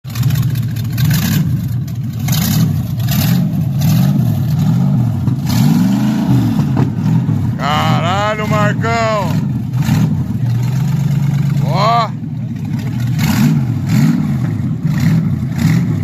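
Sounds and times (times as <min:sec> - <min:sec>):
car engine revving: 0:00.1 - 0:16.0.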